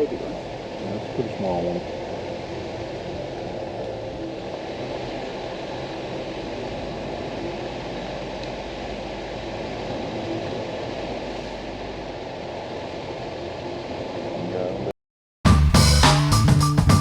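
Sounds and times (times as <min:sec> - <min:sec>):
car interior rumble and hiss: 0:00.0 - 0:14.9.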